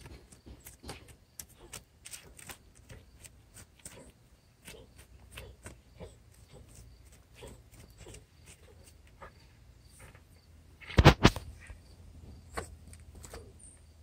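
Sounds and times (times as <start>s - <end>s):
dog claws scratching soil: 0.0s - 11.8s.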